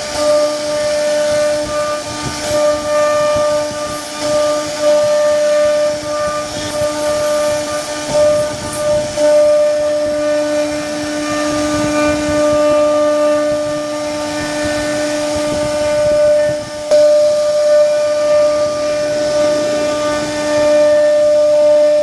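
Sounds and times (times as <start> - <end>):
hiss of bit cutting wood: 0.0 - 22.0
router spindle whining: 0.0 - 22.0.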